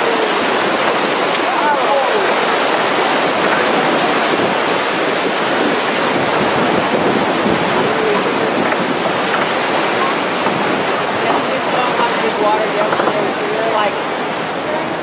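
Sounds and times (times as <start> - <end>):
whitewater rushing and splashing: 0.0 - 15.0.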